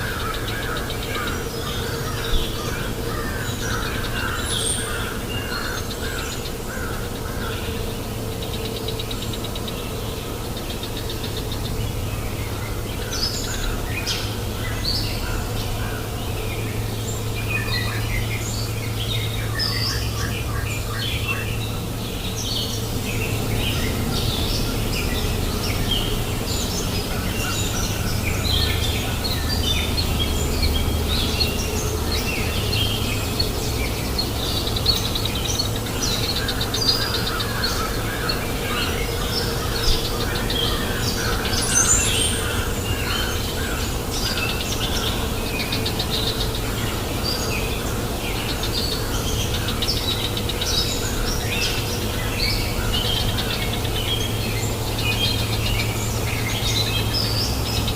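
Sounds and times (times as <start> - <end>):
songbirds chirping: 0.0 - 57.9
river flowing: 5.8 - 57.9.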